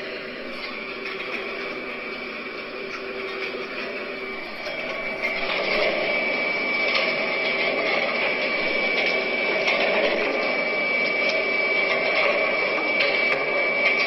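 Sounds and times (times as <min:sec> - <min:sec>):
grinder machine running with whine: 0:00.0 - 0:14.0.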